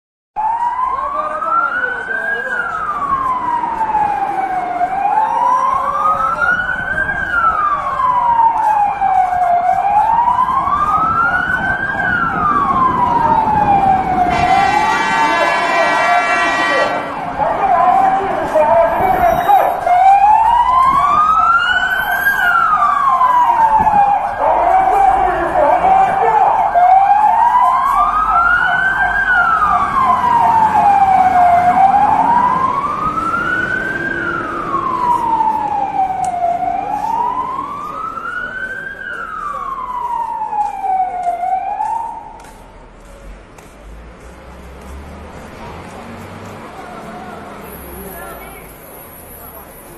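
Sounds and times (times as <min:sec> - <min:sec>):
siren wailing: 0:00.4 - 0:42.6.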